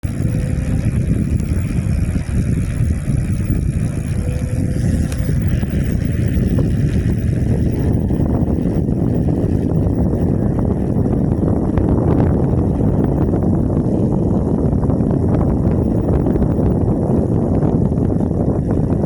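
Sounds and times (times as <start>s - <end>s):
faint thin whine: 0.0s - 19.0s
wind buffeting microphone: 0.0s - 19.0s.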